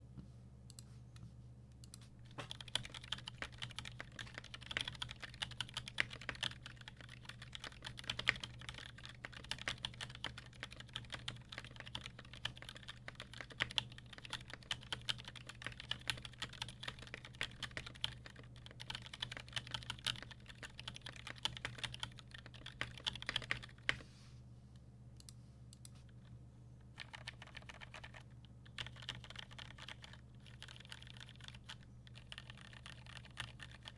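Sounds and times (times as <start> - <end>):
faint low hum: 0.0 - 33.9
mechanical keyboard typing: 2.3 - 24.0, 26.9 - 33.9.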